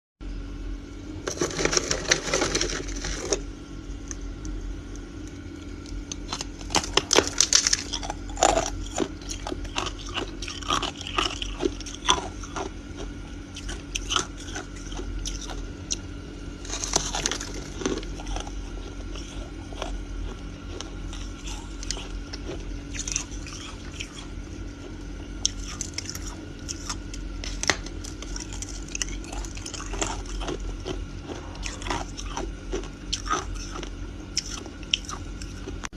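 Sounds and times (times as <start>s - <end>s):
ice being chewed: 1.3s - 4.2s, 5.6s - 16.0s, 16.6s - 35.9s.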